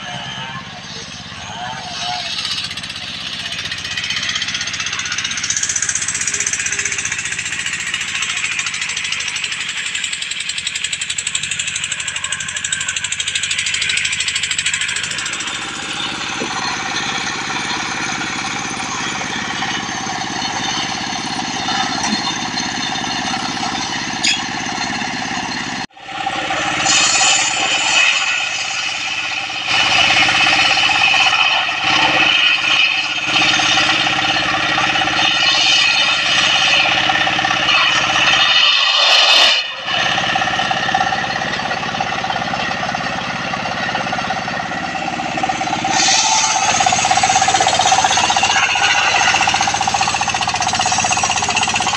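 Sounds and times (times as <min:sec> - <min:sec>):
sawmill blade ripping logs: 0:00.0 - 0:51.9.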